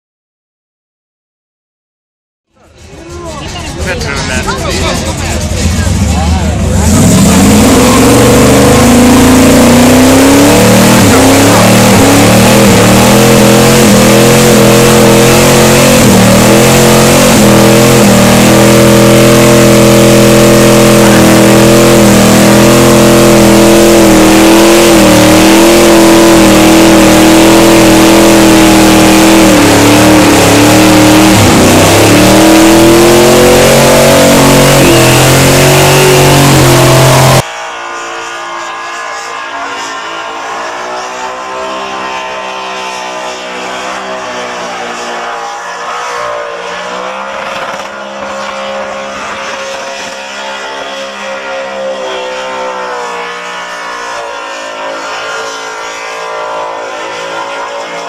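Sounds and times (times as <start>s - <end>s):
car engine revving high: 2.8s - 58.0s.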